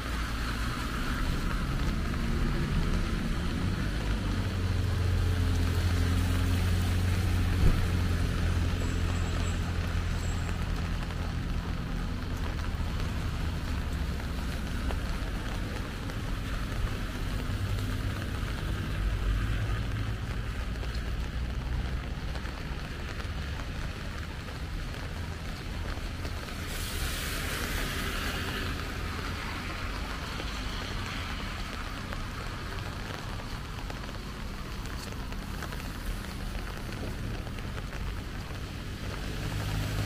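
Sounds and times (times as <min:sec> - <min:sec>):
rain on wet street: 0:00.0 - 0:40.0.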